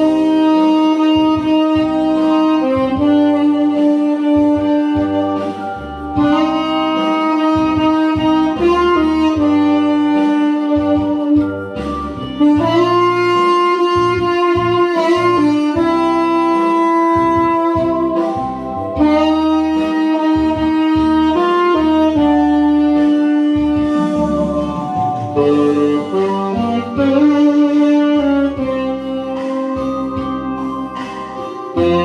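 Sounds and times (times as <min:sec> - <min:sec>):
musical accompaniment with bass: 0:00.0 - 0:32.0
tenor saxophone melody: 0:00.0 - 0:32.0.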